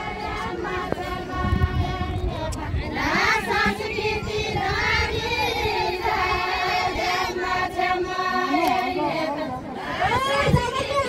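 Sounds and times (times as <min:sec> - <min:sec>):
women singing folk song: 0:00.0 - 0:11.0.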